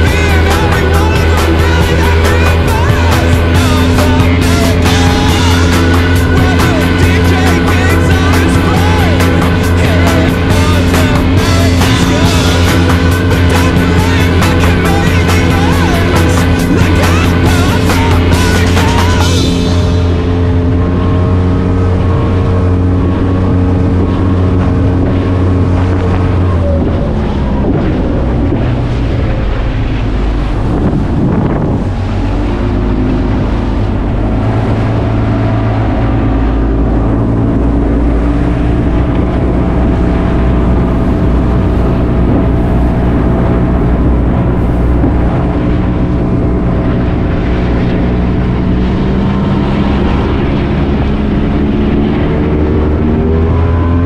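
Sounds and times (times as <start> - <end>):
powerboat engines running hard: 0.0 - 54.0
wind rushing over microphone: 0.0 - 54.0.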